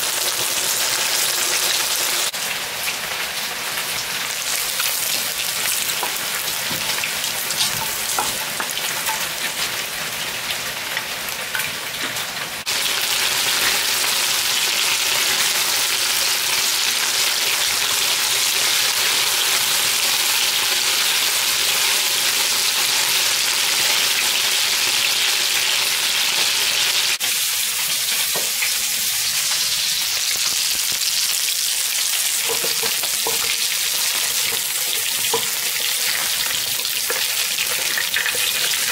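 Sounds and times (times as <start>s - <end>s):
meat sizzling in oil: 0.0s - 38.9s.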